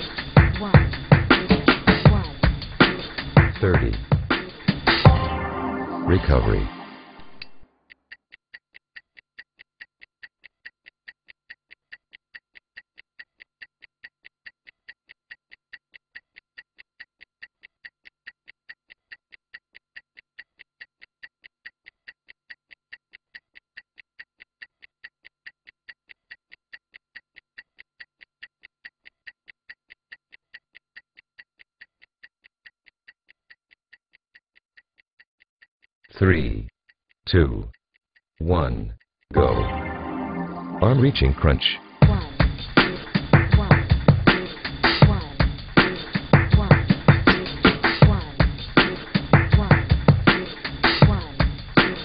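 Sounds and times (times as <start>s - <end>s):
stopwatch ticking: 0.0s - 5.1s, 7.4s - 39.4s, 42.0s - 52.0s.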